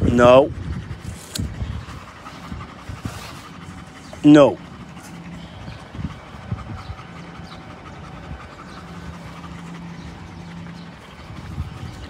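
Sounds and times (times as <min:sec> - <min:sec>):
dogs panting: 0:00.0 - 0:12.0
steady low hum: 0:00.0 - 0:12.0.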